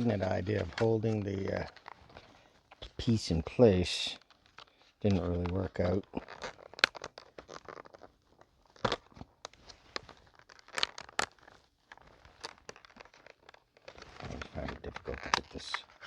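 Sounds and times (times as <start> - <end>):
package crinkling and tearing: 0.0 - 16.0.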